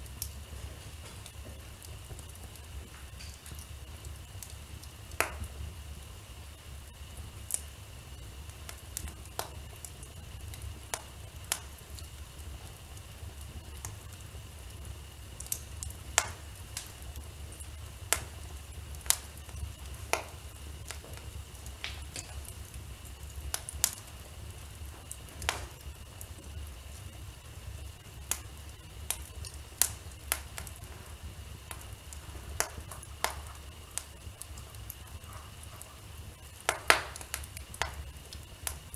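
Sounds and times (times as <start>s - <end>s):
faint high whine: 0.0s - 38.9s
wood fire crackling: 0.0s - 38.9s.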